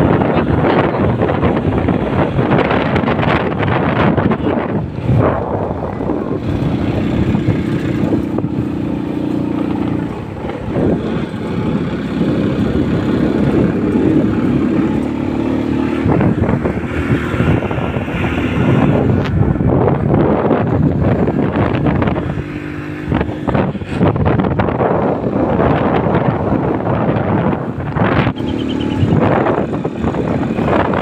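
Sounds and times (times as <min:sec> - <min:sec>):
motor scooter engine hum: 0:00.0 - 0:31.0
wind buffeting microphone: 0:00.0 - 0:31.0.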